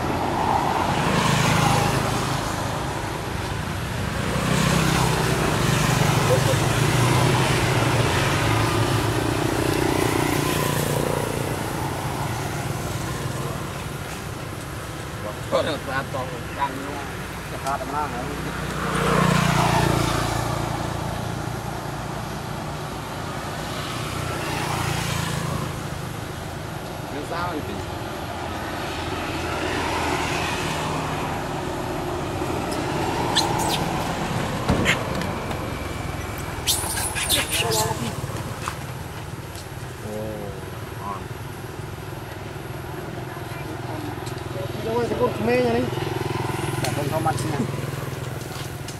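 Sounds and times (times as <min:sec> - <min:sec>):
road traffic: 0:00.0 - 0:48.9
vehicle engine humming: 0:00.0 - 0:48.9.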